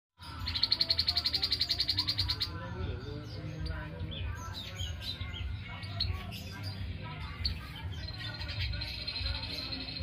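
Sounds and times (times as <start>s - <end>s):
bird trilling: 0.3s - 10.0s.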